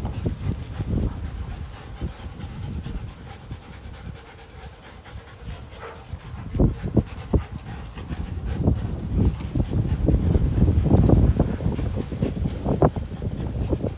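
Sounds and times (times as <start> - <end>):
dogs panting: 0.0 - 13.9
dogs tussling: 0.0 - 13.9.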